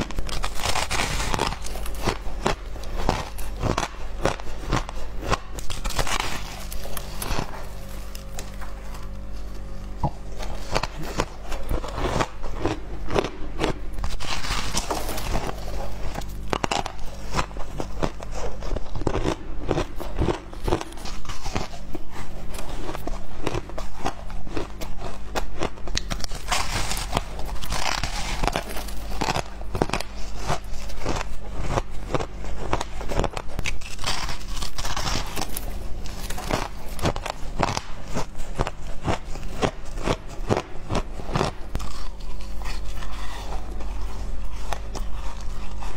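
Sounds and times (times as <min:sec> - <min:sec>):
shaved ice crunching: 0:00.0 - 0:09.2, 0:10.6 - 0:45.9
faint low hum: 0:00.0 - 0:45.9.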